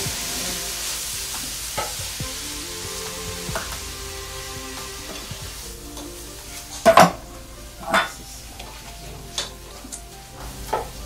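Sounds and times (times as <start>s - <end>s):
filling frying: 0.0s - 11.0s.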